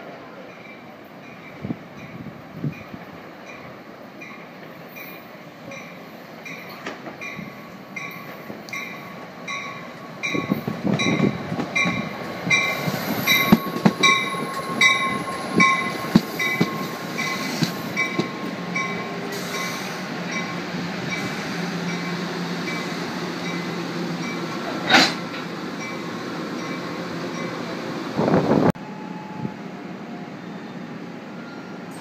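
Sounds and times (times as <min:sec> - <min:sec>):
train rumbling past: 0:00.0 - 0:32.0.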